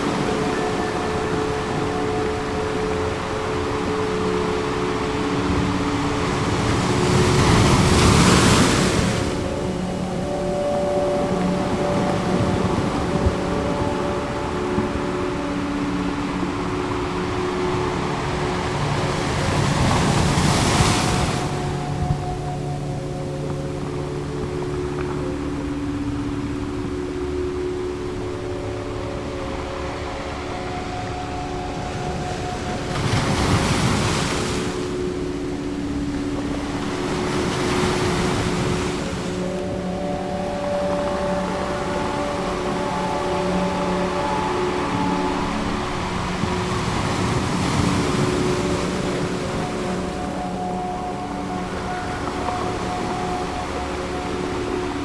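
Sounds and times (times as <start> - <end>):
ambient music held tones: 0.0 - 55.0
ocean surf: 0.0 - 55.0.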